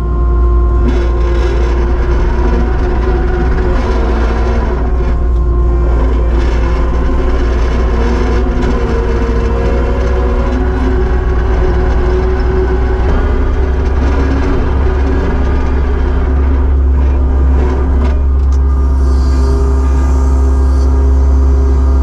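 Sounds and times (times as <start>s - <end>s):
diesel engine droning: 0.0s - 22.0s
higher wavering engine tone: 0.0s - 22.0s.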